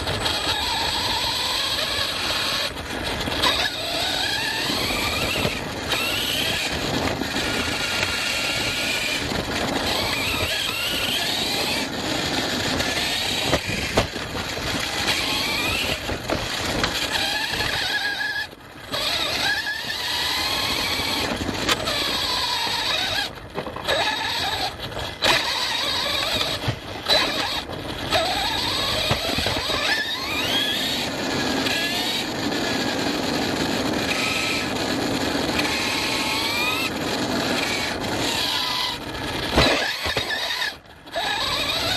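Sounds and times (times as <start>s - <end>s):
electric motor whining: 0.0s - 41.9s
gears rattling: 0.0s - 41.9s.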